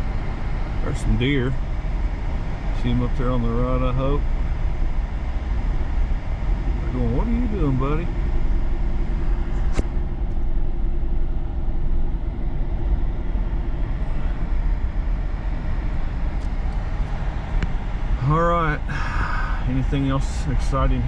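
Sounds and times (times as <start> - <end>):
truck cab road and engine rumble: 0.0 - 21.0.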